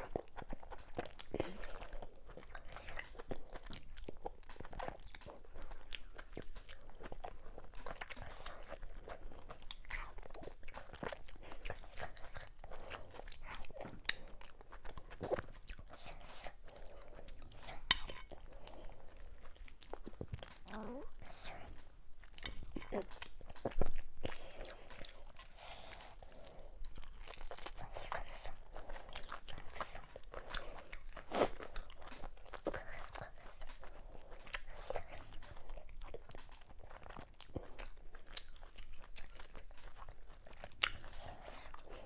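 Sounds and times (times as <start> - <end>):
chewing: 0.0 - 42.0.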